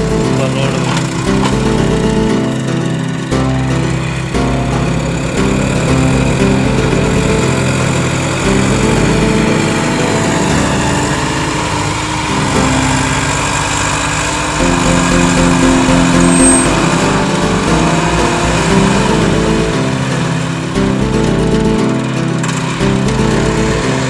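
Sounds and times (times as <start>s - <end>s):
background music with held notes: 0.0s - 24.0s
tractor diesel engines running: 0.0s - 24.0s.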